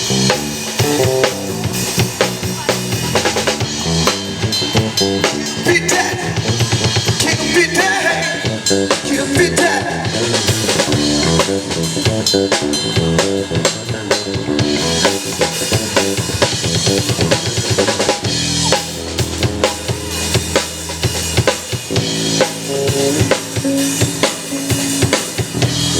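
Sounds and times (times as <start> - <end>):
drum kit beat: 0.0 - 25.9
electric bass notes: 0.0 - 25.9.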